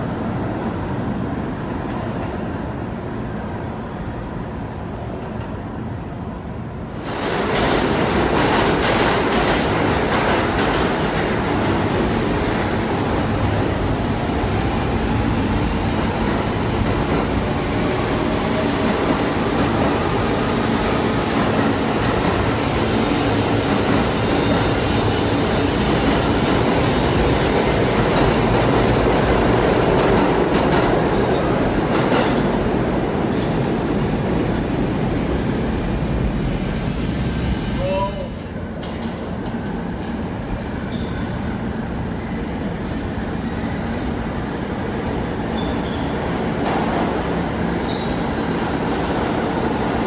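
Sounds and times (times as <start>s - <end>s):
subway train wheels rumbling on rail: 0.0s - 50.0s.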